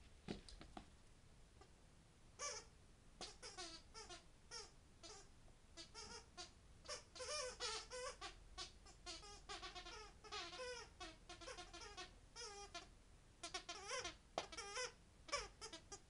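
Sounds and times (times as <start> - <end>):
squeaky dog toy squeaking: 2.4 - 16.0.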